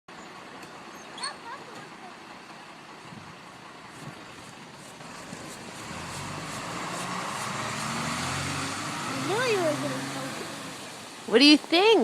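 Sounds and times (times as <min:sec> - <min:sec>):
low engine hum: 0:00.1 - 0:11.6
road vehicle running noise: 0:00.1 - 0:12.0.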